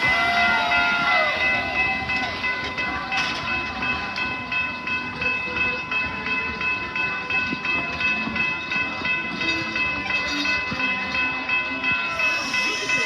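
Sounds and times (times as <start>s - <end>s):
train passing: 0.0s - 10.1s, 11.0s - 13.0s
railroad crossing bell ringing: 0.0s - 13.0s.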